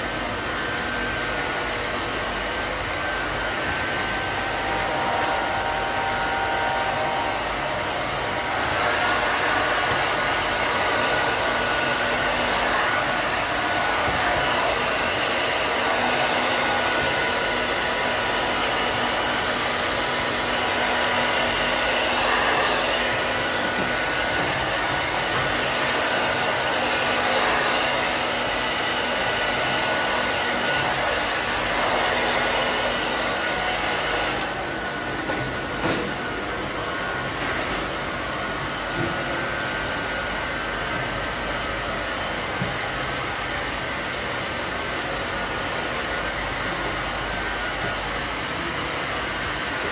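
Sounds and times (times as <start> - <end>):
hair dryer blowing: 0.0 - 49.9.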